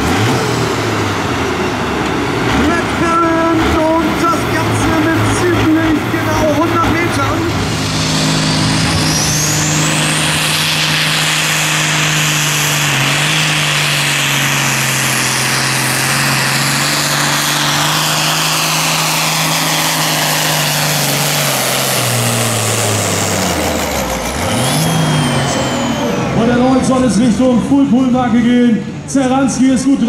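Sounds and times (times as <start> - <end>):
diesel tractor engine at full power: 0.0 - 30.0
high turbo whine: 0.0 - 30.0.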